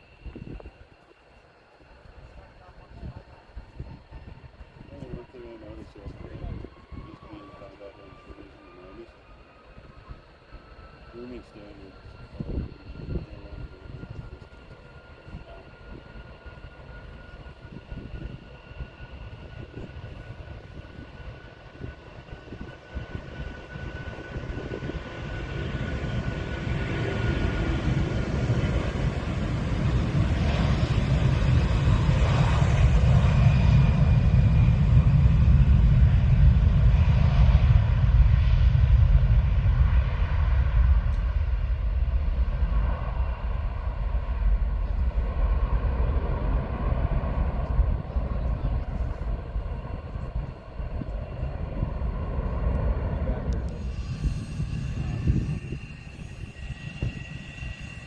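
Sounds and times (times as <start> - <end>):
aircraft engines rumbling: 0.0 - 58.0.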